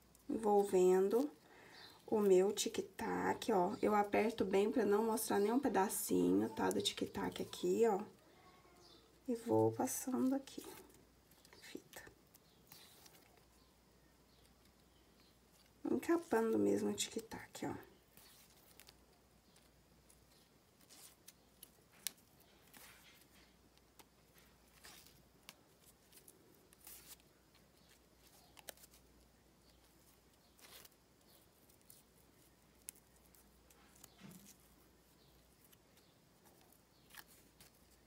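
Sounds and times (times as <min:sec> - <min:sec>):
ribbon rustling: 0:00.0 - 0:38.0.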